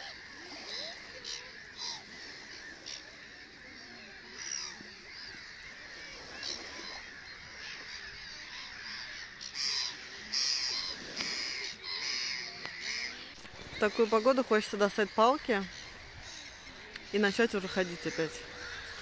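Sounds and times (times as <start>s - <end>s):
bird calling: 0.0s - 19.0s.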